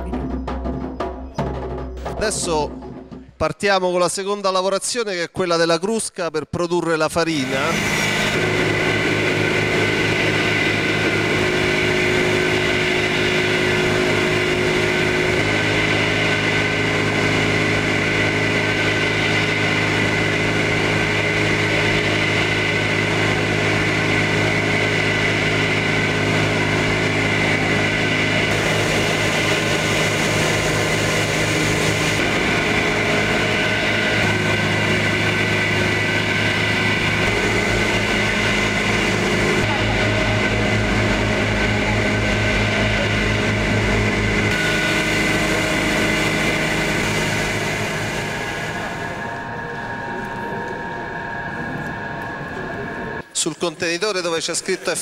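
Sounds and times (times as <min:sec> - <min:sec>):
milling machine humming: 0:07.4 - 0:53.4.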